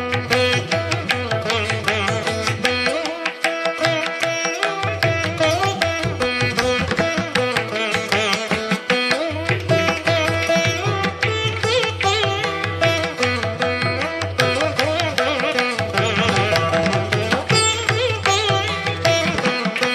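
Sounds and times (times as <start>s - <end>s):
plucked strings: 0.0s - 19.9s.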